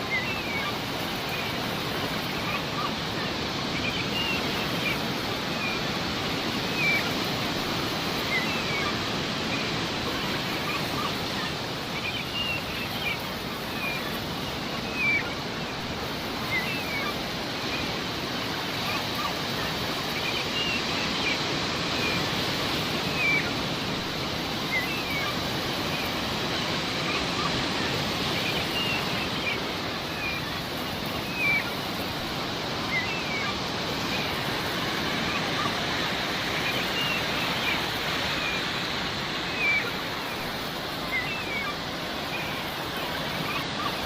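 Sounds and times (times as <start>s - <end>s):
sea waves washing: 0.0s - 44.0s
seagulls calling: 0.0s - 44.0s.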